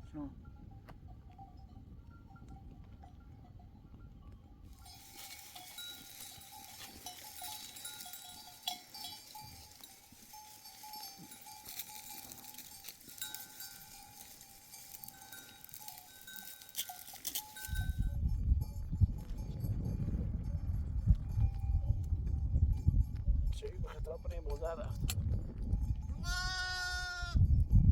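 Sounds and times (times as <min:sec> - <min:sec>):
animal bells clinking: 0:00.0 - 0:27.9.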